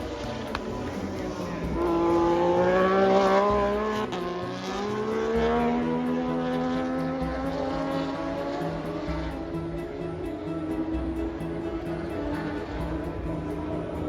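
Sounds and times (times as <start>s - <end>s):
racing motorcycle engine accelerating: 0.0s - 14.0s.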